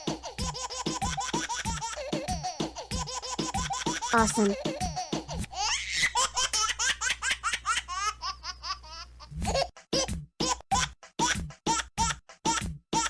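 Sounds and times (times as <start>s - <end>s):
baby laughing: 0.0s - 13.0s.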